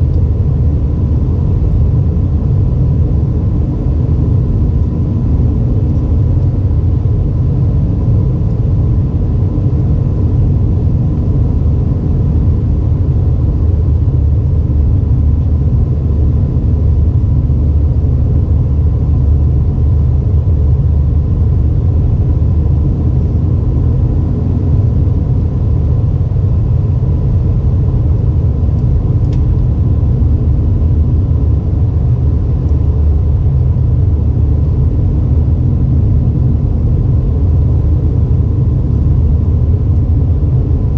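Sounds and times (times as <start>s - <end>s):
aircraft cabin rumble: 0.0s - 40.9s
faint steady hum: 0.0s - 40.9s.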